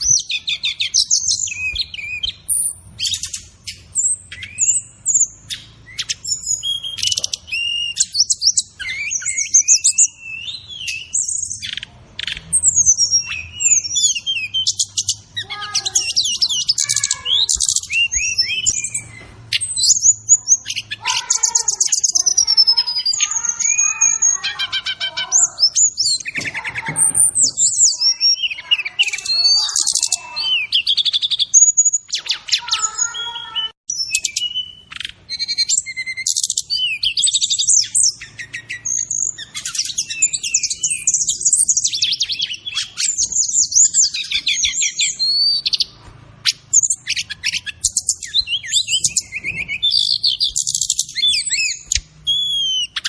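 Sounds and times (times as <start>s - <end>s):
bird song with chirps and trills: 0.0s - 53.0s.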